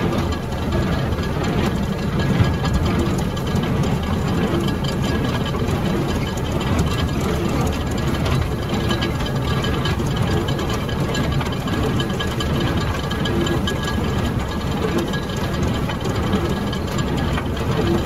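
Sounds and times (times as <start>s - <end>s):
baler mechanical clatter: 0.0s - 18.0s
tractor engine running under load: 0.0s - 18.0s.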